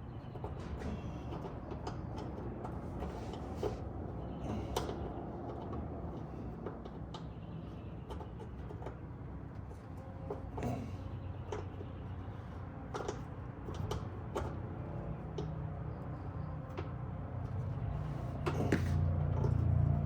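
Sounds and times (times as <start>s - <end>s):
light clicks and knocks on car parts: 0.2s - 20.0s.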